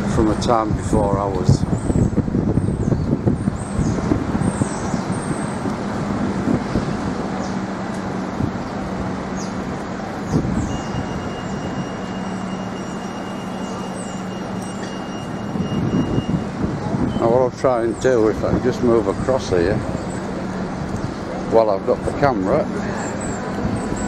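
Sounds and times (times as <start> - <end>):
vehicles passing with engine hum: 0.0 - 24.0.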